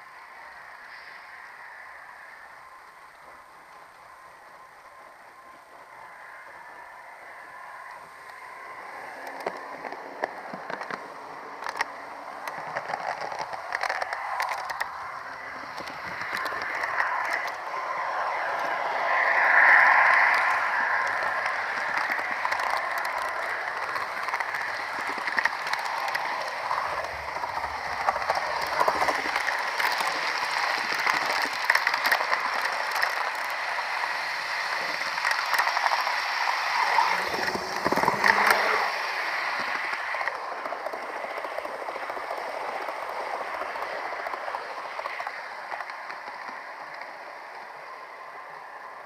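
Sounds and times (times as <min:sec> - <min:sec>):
model train whirring: 0:00.0 - 0:49.0
small wheel clicks: 0:00.0 - 0:49.0.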